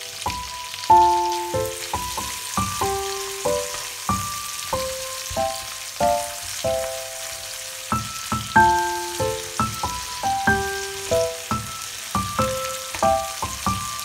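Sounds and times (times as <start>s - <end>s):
food frying in oil: 0.0s - 14.0s
slow background music notes: 0.0s - 14.0s.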